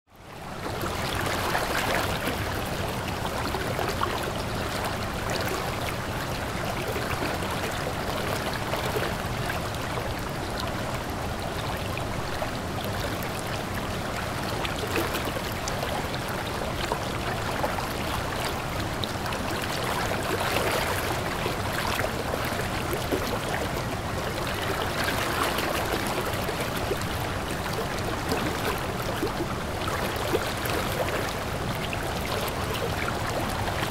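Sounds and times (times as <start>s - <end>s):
stream gurgling over rocks: 0.2s - 33.9s.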